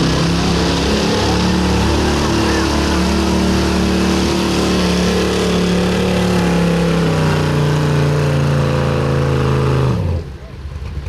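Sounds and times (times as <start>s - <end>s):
truck engine at full throttle: 0.0s - 11.0s.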